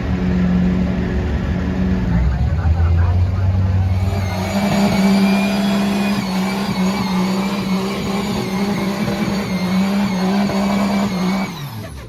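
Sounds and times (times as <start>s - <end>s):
truck engine revving high: 0.0s - 12.0s.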